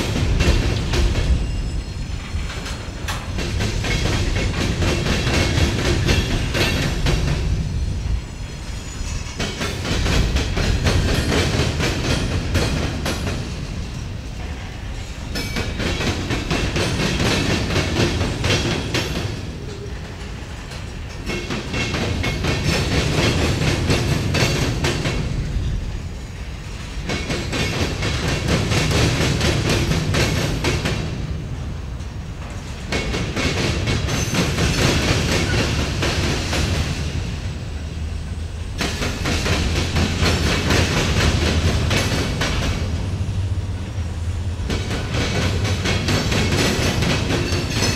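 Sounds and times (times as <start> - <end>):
low train rumble: 0.0 - 47.9
train wheels clacking over crossing: 0.0 - 47.9.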